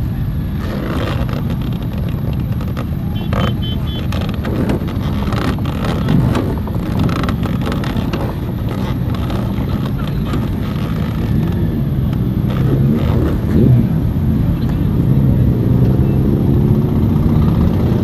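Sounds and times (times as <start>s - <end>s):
motorcycle accelerating: 0.0s - 18.0s
motorcycles pulling away: 0.0s - 18.0s.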